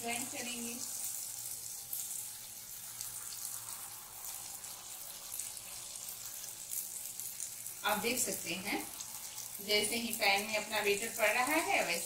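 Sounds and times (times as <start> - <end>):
batter sizzling in hot oil: 0.0 - 12.0.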